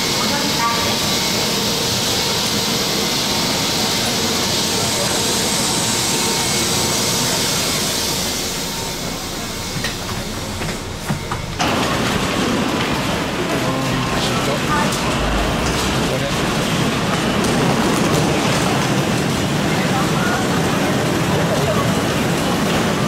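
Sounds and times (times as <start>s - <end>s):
subway train rushing noise: 0.0s - 23.0s.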